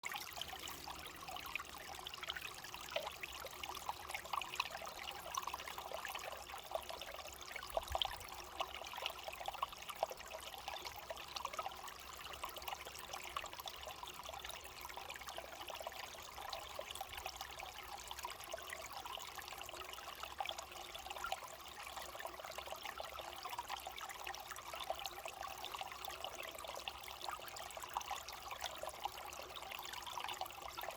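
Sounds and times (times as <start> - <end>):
water trickling: 0.0 - 30.9.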